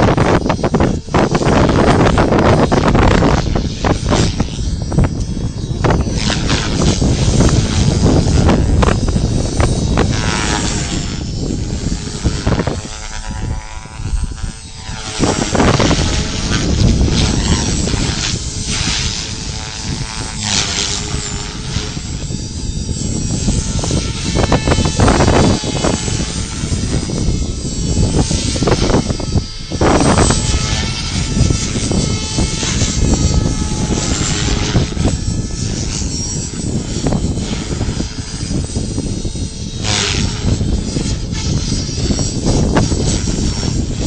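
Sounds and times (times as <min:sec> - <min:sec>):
model helicopter motor whine: 0:00.0 - 0:44.0
wind buffeting microphone: 0:00.0 - 0:44.0.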